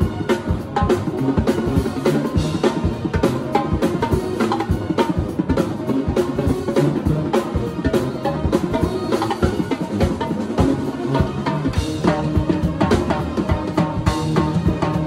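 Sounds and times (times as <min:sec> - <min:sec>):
drum kit played fast: 0:00.0 - 0:15.0.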